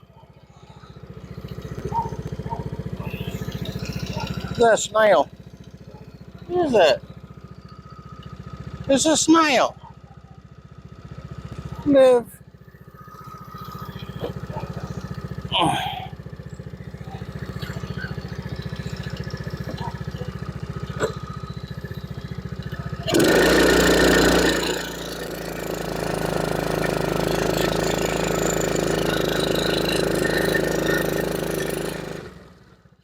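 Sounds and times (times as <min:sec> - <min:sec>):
small atv engine running: 0:00.0 - 0:33.0.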